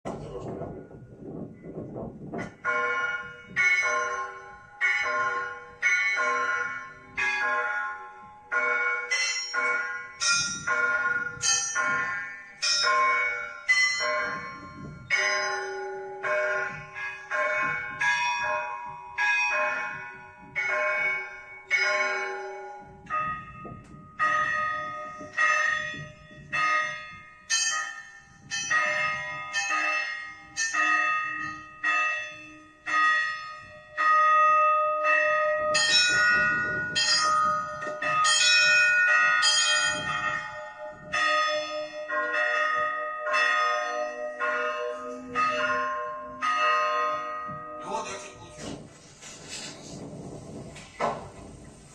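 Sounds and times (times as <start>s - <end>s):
church bells pealing: 0.1s - 50.7s.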